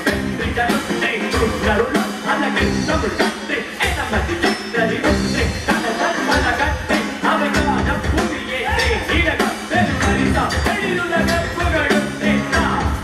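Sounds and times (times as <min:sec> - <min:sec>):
clay-pot drums in fast rhythm: 0:00.0 - 0:13.0
electric bass and guitar: 0:00.0 - 0:13.0.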